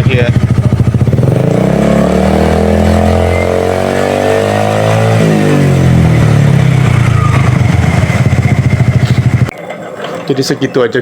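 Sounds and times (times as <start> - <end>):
scooter engine revving: 0.0 - 9.5.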